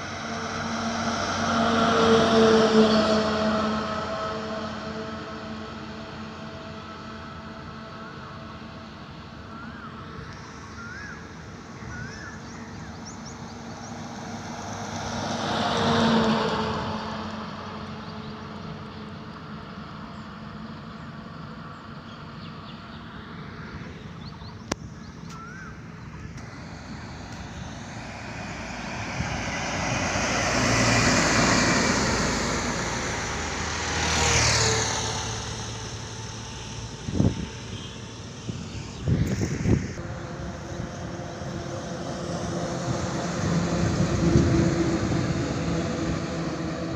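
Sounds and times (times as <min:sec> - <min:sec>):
faint steady traffic noise: 0:00.0 - 0:46.9
vehicles passing on highway: 0:00.0 - 0:46.9.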